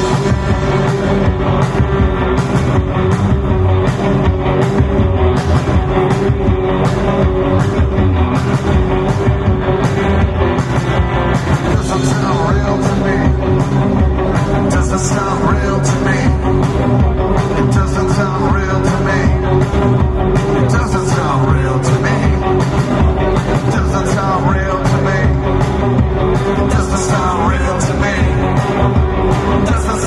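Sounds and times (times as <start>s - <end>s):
drum kit with cymbals: 0.0s - 30.0s
electric guitar: 0.0s - 30.0s.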